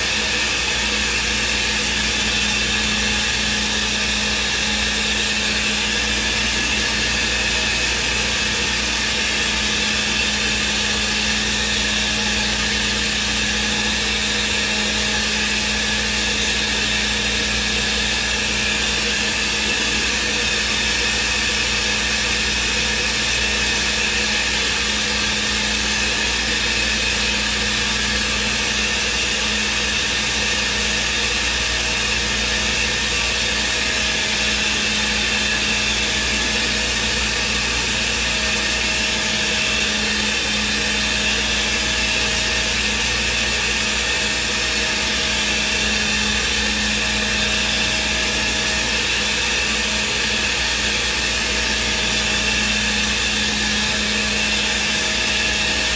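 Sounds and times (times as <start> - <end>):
cnc router spindle running: 0.0 - 55.9.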